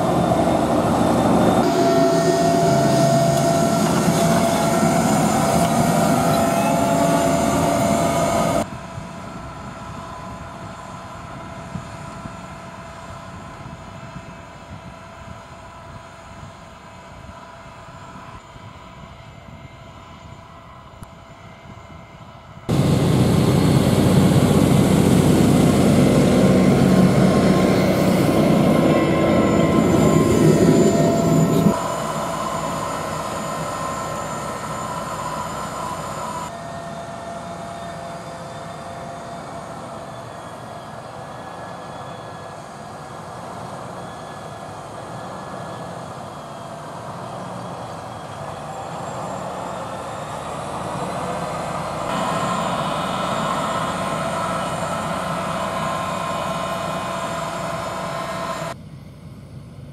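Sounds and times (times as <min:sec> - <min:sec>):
tractor running under load: 0:00.0 - 0:19.0, 0:22.7 - 0:59.9.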